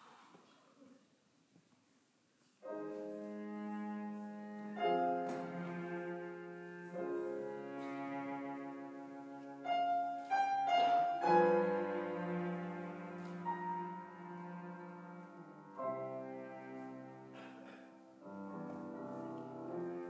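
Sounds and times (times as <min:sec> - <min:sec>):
piano and string quartet playing: 0:02.6 - 0:20.0.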